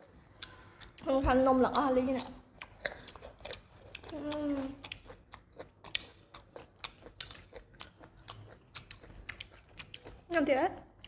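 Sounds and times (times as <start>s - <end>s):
chewing crunchy fruit: 0.0s - 11.0s.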